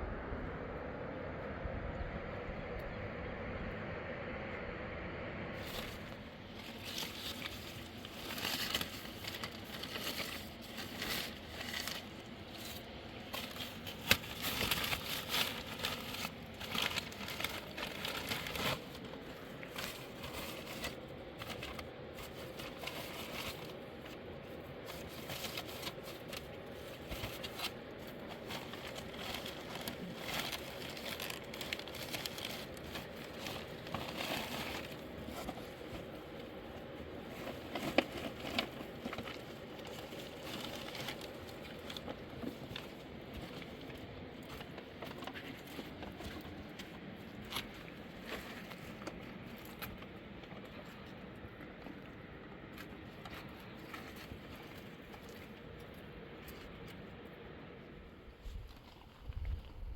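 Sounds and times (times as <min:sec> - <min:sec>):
crackling and rustling: 0:05.5 - 0:59.9.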